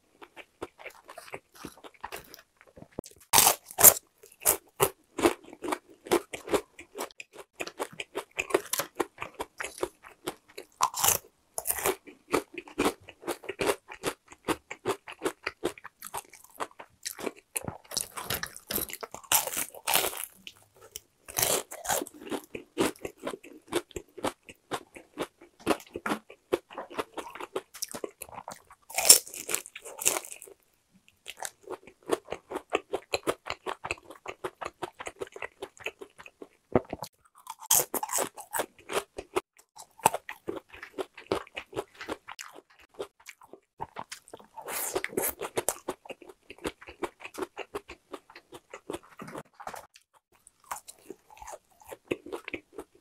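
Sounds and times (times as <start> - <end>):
crunching fried chicken: 0.1 - 30.6, 31.2 - 53.0.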